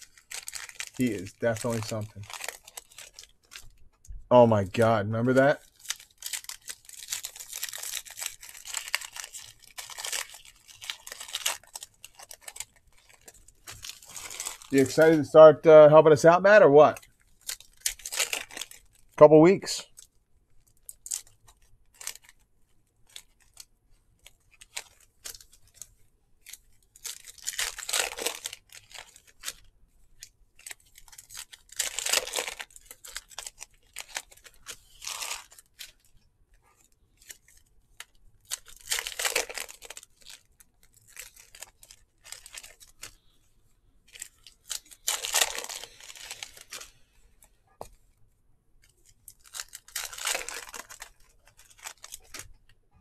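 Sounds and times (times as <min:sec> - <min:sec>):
foil wrappers tearing and crinkling: 0:00.0 - 0:03.8, 0:05.3 - 0:15.3, 0:16.8 - 0:19.2, 0:20.7 - 0:22.4, 0:23.0 - 0:43.4, 0:44.1 - 0:47.2, 0:48.8 - 0:52.6.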